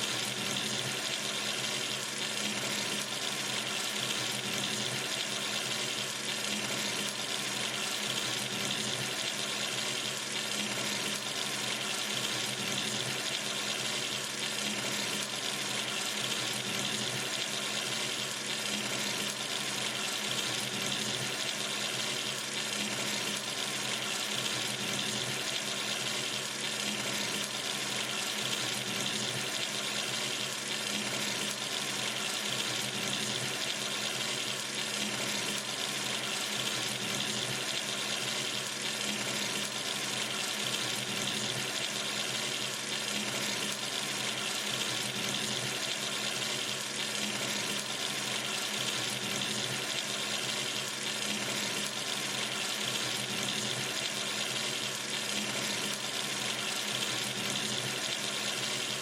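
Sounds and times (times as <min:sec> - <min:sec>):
water running from sink tap: 0:00.0 - 0:59.0.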